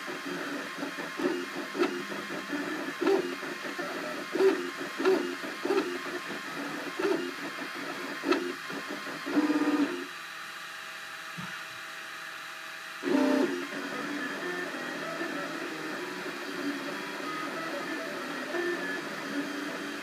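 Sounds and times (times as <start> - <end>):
stepper motors whirring: 0.0 - 10.1, 12.9 - 20.0
printer humming: 0.0 - 20.0.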